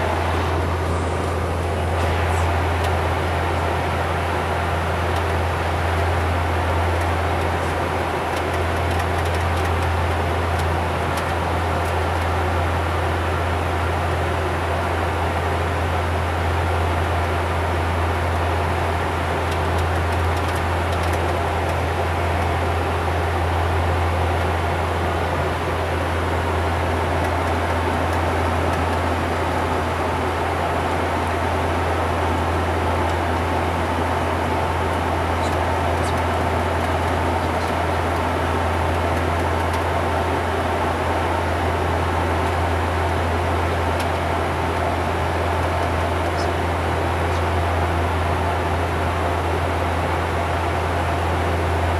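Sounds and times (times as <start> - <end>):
low propeller hum: 0.0 - 51.9.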